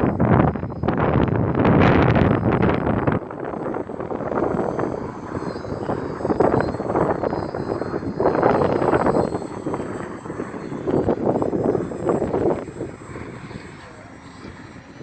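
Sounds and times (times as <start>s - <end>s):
model aircraft motor and propeller: 0.0s - 15.0s
rotor noise: 0.0s - 15.0s.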